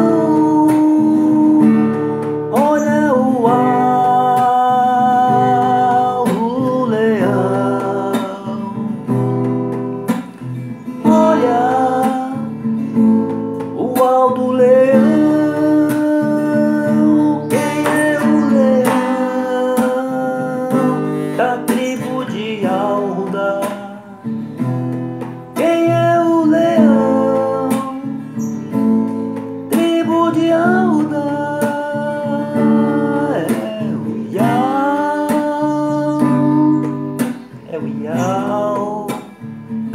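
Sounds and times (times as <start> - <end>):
acoustic guitar music: 0.0 - 39.9
person singing: 0.0 - 39.9.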